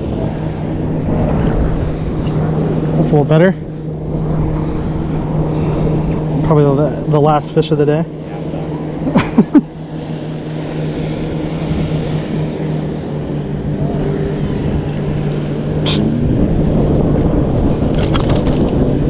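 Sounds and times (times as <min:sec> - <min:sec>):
engine running: 0:00.0 - 0:19.0
rush of noise: 0:00.0 - 0:19.0.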